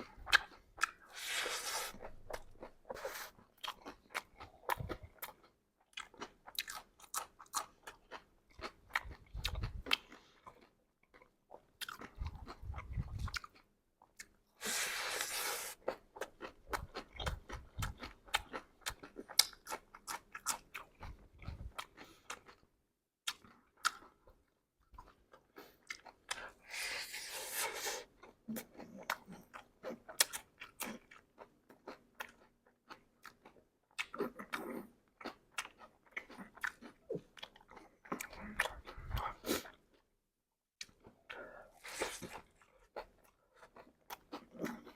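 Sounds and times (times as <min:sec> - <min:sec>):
person chewing crunchy food: 0:00.0 - 0:40.2, 0:40.8 - 0:44.9.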